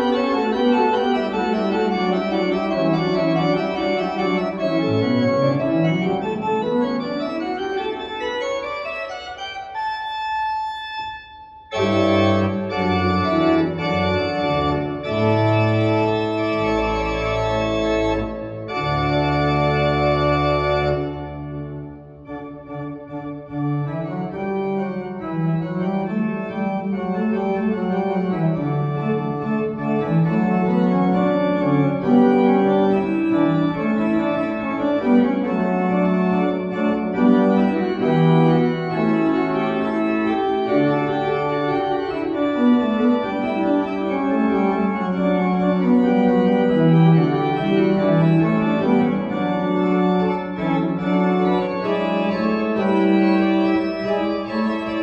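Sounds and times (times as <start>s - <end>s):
church pipe organ playing: 0.0s - 55.0s.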